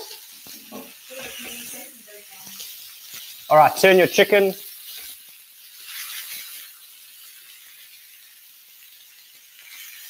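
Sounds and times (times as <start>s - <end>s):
kebabs sizzling on griddle: 0.0s - 10.0s
tongs turning food: 0.0s - 10.0s.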